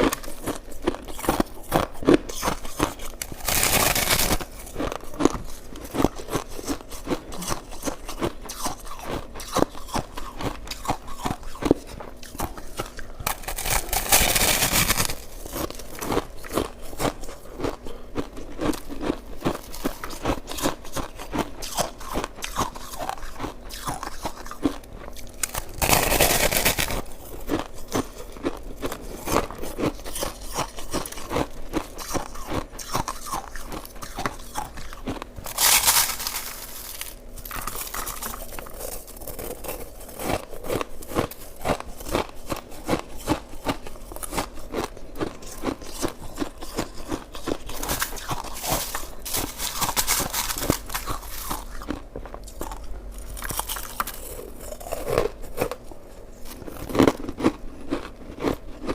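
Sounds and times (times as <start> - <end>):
ice being chewed: 0.0 - 58.9.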